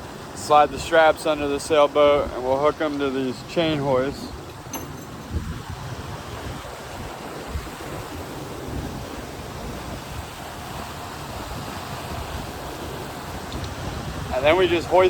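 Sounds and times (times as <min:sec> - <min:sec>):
water rushing: 0:00.0 - 0:15.0
wind buffeting microphone: 0:00.0 - 0:15.0.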